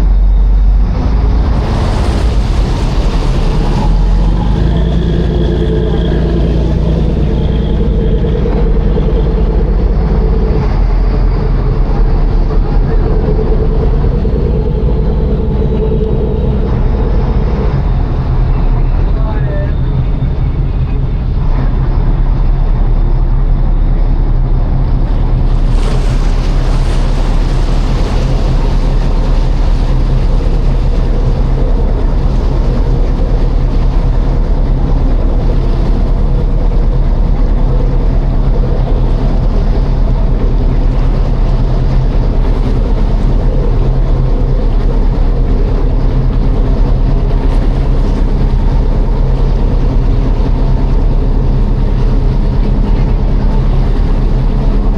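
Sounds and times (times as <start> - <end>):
rushing water and wind: 0.0 - 19.1, 21.8 - 54.9
ferry engine humming: 0.0 - 54.9.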